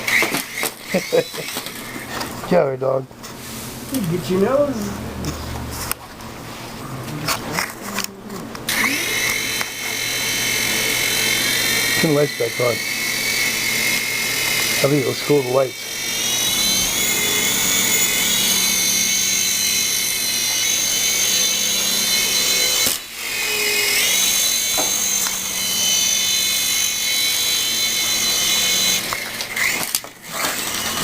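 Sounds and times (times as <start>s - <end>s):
toy helicopter motor whining: 0.0s - 2.4s, 7.3s - 31.0s.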